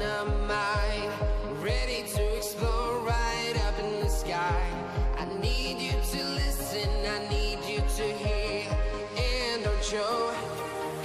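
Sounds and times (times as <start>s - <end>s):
pop music with kick drum: 0.0s - 11.0s.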